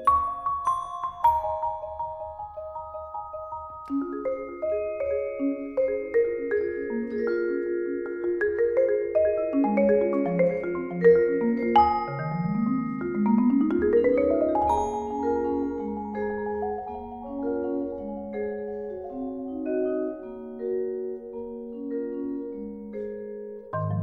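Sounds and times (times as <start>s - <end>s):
marimba and percussion ensemble: 0.0s - 24.0s.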